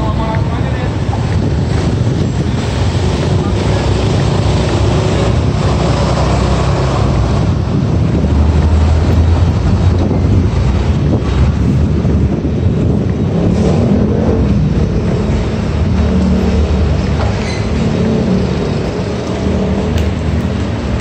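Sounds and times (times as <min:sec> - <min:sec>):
street traffic noise: 0:00.0 - 0:21.0
wind buffeting microphone: 0:00.0 - 0:21.0.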